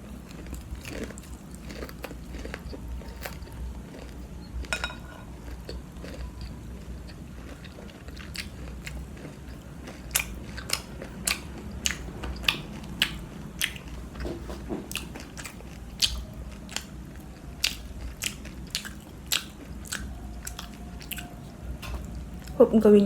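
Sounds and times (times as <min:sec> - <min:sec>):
crunchy chewing: 0:00.0 - 0:22.6.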